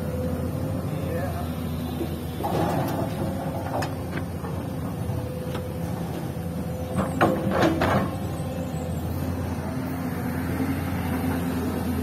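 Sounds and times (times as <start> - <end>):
excavator running: 0.0 - 12.0.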